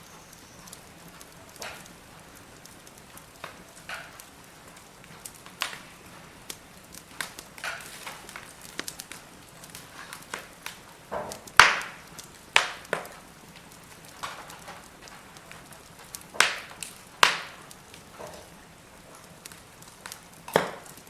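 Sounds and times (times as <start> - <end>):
faint steady hiss: 0.0 - 21.0
firewood crackling and popping: 0.0 - 21.0.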